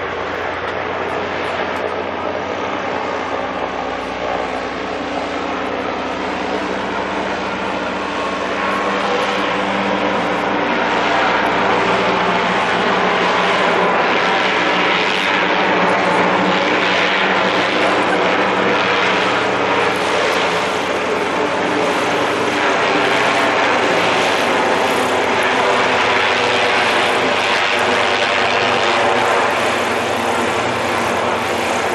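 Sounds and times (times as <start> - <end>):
airship engines and propellers: 0.0 - 31.9.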